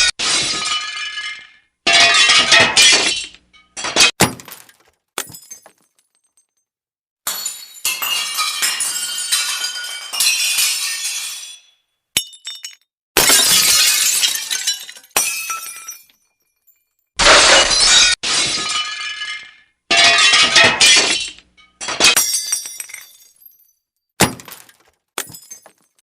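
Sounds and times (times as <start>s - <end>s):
glass smashing: 0.0s - 6.6s, 7.3s - 26.0s.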